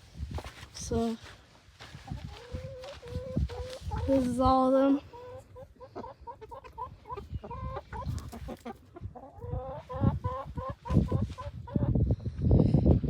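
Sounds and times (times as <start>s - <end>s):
chickens clucking: 1.9s - 12.5s.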